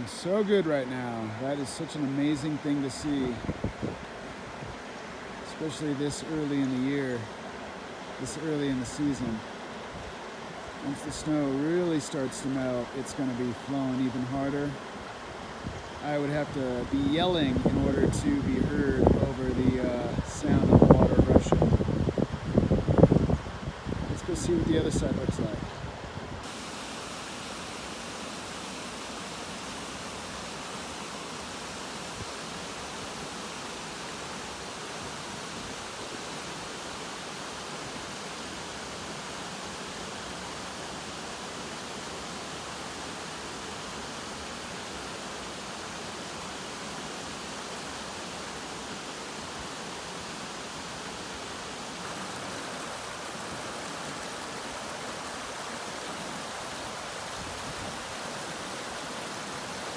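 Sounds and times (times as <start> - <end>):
fast-flowing creek water rushing: 0.0 - 59.9.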